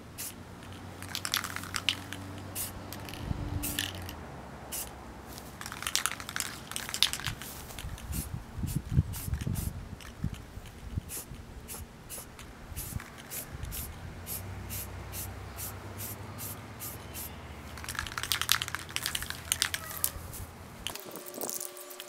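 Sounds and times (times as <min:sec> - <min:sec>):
spray paint can hissing: 0:00.2 - 0:22.0.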